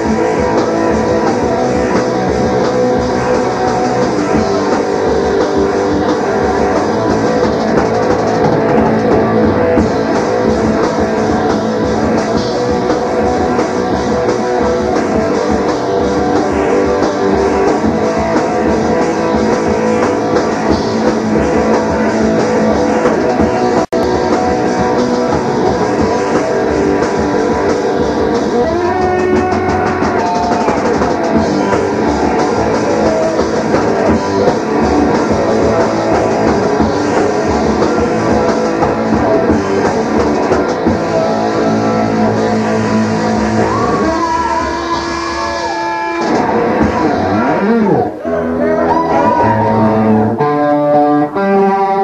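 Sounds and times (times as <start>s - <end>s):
drum kit: 0.0s - 52.0s
electric guitar: 0.0s - 52.0s.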